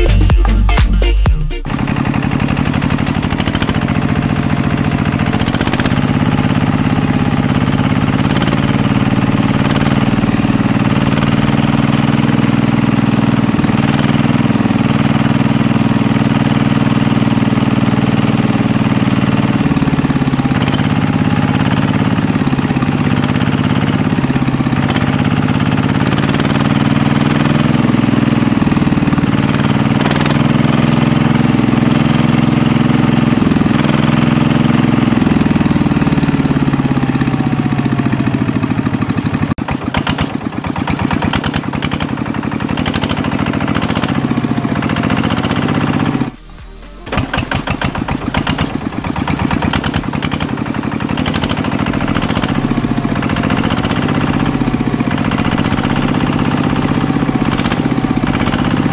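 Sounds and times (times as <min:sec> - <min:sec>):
small tiller engine humming: 0:00.0 - 0:58.9.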